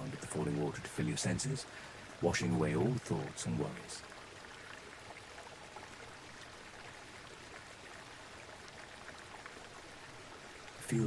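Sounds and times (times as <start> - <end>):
waterfall: 0.0 - 11.0.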